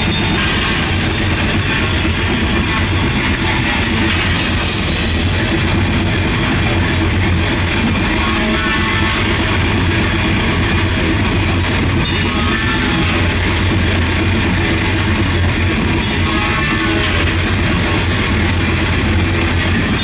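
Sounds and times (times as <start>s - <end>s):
drum kit: 0.0s - 20.0s
electric guitars: 0.0s - 20.0s.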